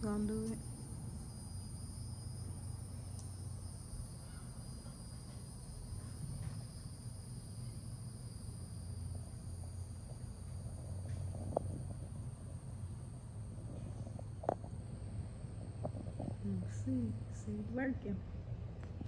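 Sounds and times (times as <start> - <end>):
high-pitched insect drone: 0.0 - 17.2
low steady hum: 0.0 - 19.0.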